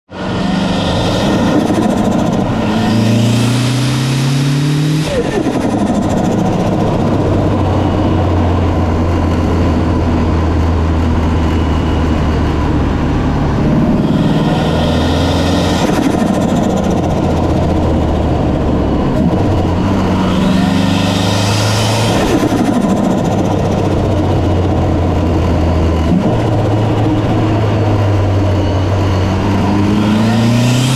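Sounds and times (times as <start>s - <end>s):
car engine idling and revving: 0.1s - 30.9s.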